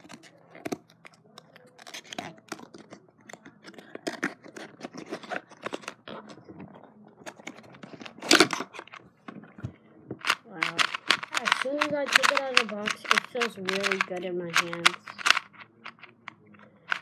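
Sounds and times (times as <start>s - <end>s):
packaging clicks and scratches: 0.0s - 9.6s, 10.2s - 17.0s.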